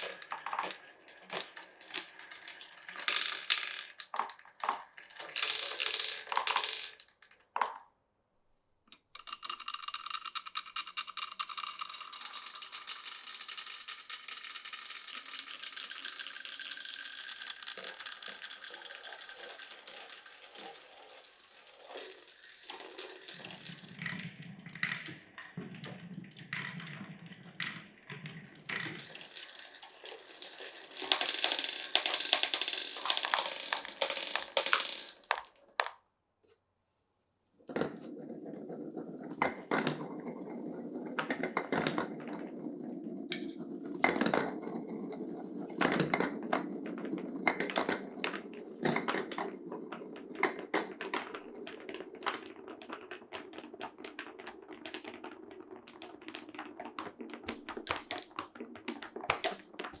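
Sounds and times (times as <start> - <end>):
marbles rolling through wooden run: 0.0 - 7.9, 9.2 - 36.0, 37.7 - 60.0.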